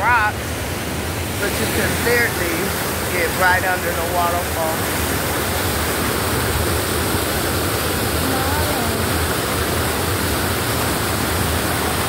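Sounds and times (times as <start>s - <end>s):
waterfall splashing over rocks: 0.0s - 12.0s.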